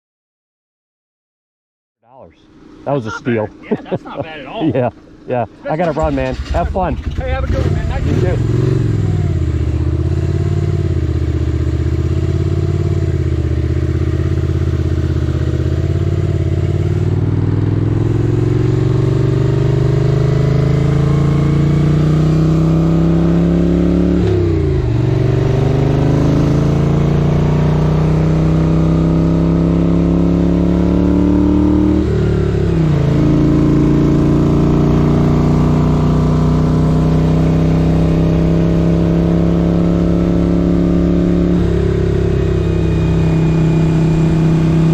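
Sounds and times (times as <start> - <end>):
motorcycle accelerating through gears: 5.5 - 44.9.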